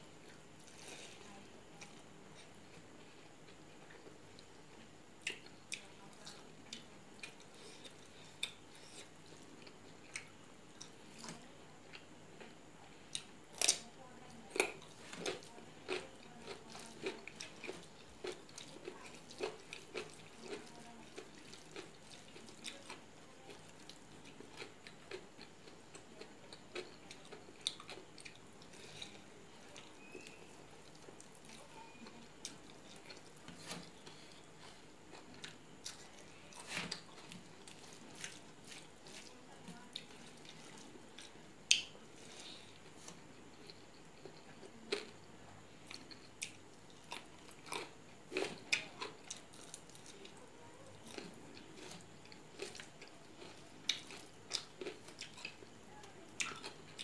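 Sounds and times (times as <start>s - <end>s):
person chewing food: 0.2s - 12.5s, 14.5s - 50.4s, 51.0s - 55.8s, 56.4s - 57.0s.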